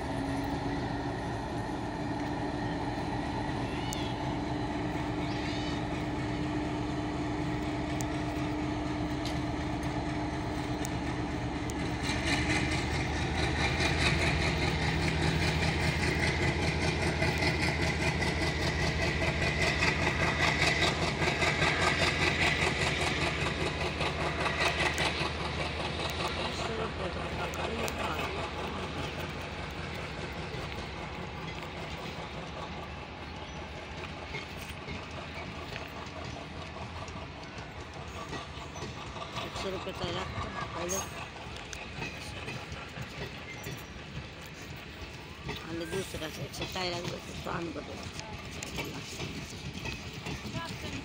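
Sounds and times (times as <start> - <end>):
diesel locomotive engine hum: 0.0 - 51.0
train wheels clattering on rails: 0.0 - 51.0.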